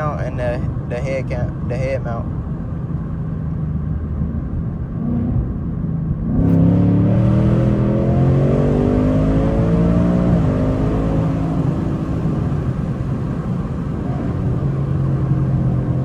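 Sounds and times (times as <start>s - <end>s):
car engine accelerating: 2.9s - 16.0s.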